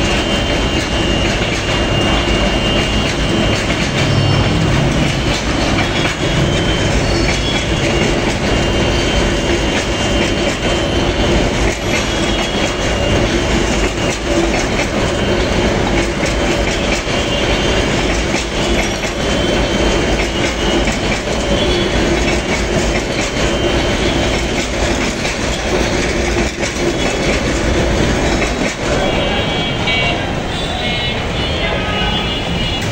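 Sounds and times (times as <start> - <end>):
train wheels clattering on rails: 0.0 - 31.1, 32.4 - 32.9.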